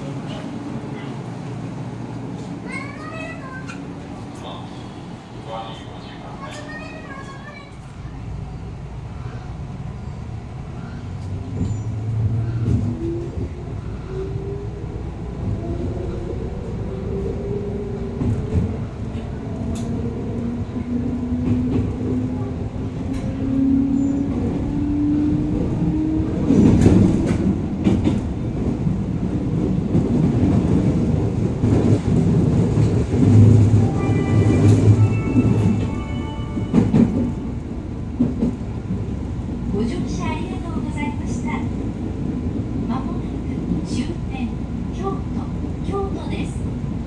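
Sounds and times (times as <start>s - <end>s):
wheels on rail rumbling: 0.0s - 47.0s.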